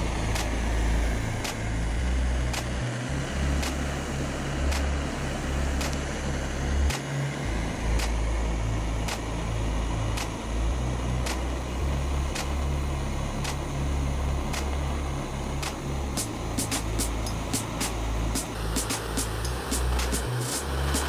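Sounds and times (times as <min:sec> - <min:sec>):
deep rumble: 0:00.0 - 0:21.0
gas torch flame hissing: 0:00.0 - 0:21.0.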